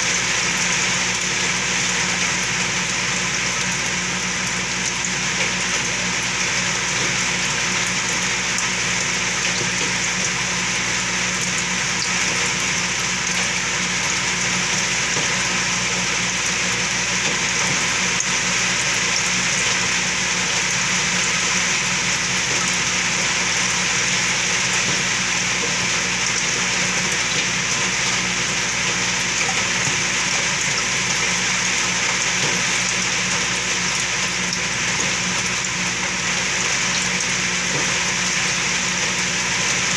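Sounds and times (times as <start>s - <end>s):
bubbling water rushing: 0.0s - 39.9s
low pump hum: 0.0s - 39.9s.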